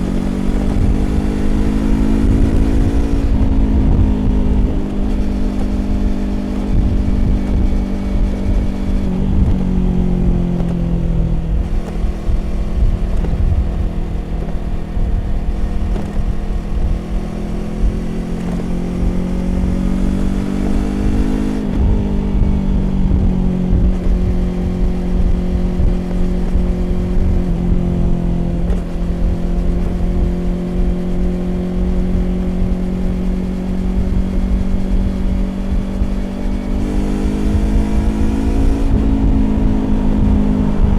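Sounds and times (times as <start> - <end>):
motorcycle engine revving: 0.0 - 40.9
road noise: 0.0 - 40.9
wind noise: 0.0 - 40.9.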